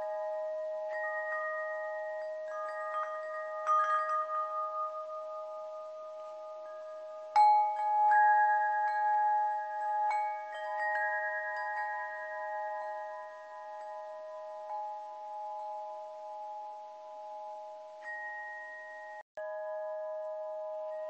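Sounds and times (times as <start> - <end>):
chimes ringing: 0.0 - 21.0.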